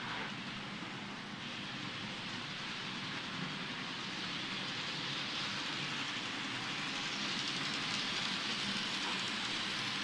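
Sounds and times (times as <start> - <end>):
model train rolling on rails: 0.0 - 10.0.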